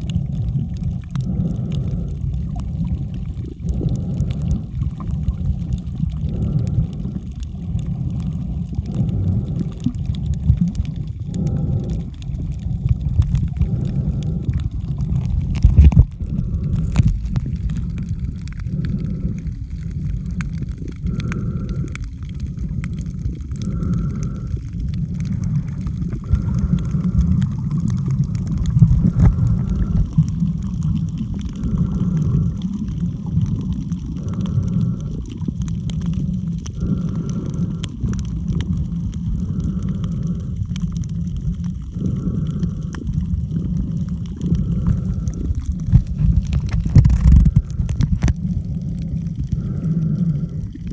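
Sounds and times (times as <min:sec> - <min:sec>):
faint clicks: 0:00.0 - 0:50.9
muffled underwater water rumble: 0:00.0 - 0:50.9
soft recurring underwater sound: 0:00.0 - 0:50.9.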